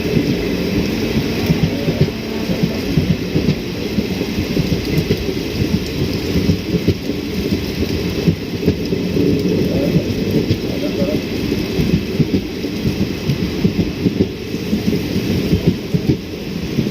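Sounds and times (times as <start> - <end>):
heavy rain rushing: 0.0 - 16.9.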